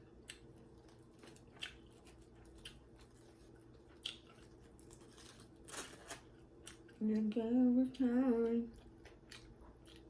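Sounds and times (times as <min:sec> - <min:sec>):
chewing food: 0:00.0 - 0:07.4, 0:08.4 - 0:10.0
faint steady hum: 0:00.0 - 0:10.0.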